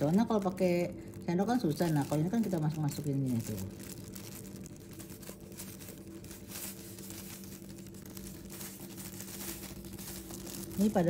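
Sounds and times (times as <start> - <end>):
hands rustling food filling: 0.0 - 11.0
steady low hum: 0.0 - 11.0.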